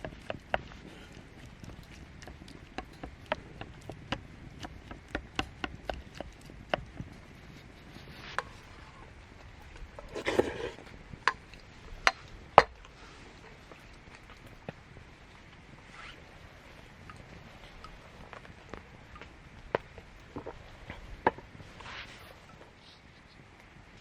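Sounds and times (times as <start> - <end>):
wood fire crackling and popping: 0.0 - 22.8.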